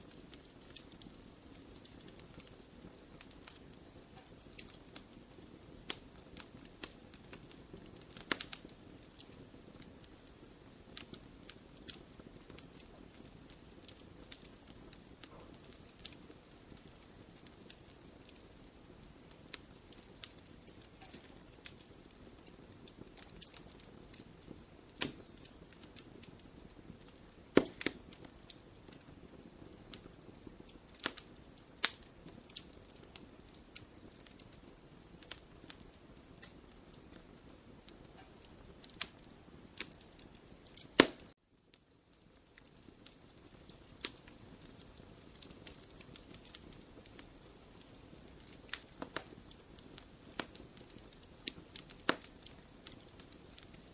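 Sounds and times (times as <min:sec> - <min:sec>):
fire hissing softly: 0:00.0 - 0:53.9
wood fire crackling and popping: 0:00.0 - 0:53.9.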